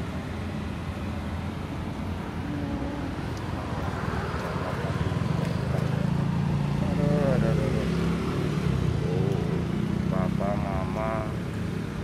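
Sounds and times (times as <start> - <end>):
traffic on a wet street: 0.0 - 12.0.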